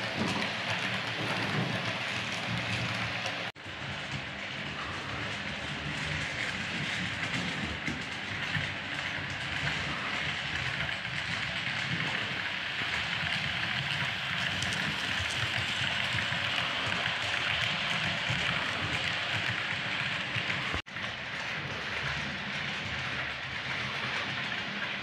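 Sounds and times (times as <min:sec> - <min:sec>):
model train whirring on track: 0:00.0 - 0:25.0.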